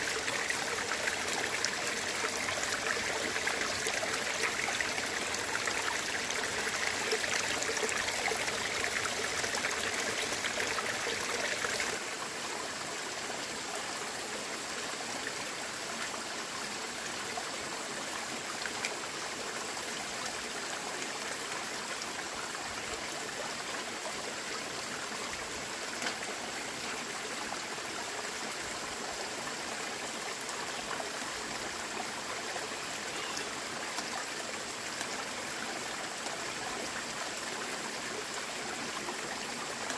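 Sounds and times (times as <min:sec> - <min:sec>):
running water flowing and trickling: 0:00.0 - 0:39.9.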